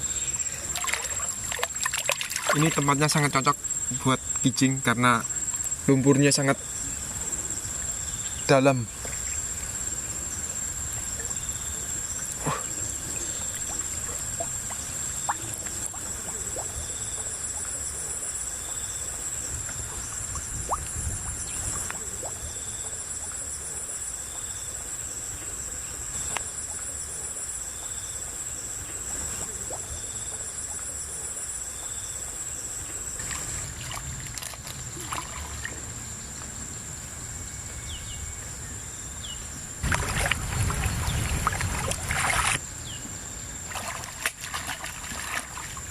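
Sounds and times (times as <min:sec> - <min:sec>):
river water splashing and trickling: 0:00.0 - 0:25.4, 0:32.6 - 0:37.7, 0:39.4 - 0:45.9
high insect drone: 0:00.0 - 0:45.9.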